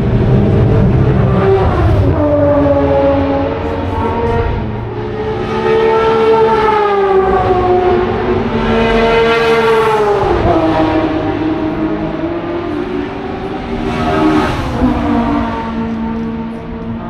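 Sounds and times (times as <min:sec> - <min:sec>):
racing car engines passing: 0:00.0 - 0:17.0.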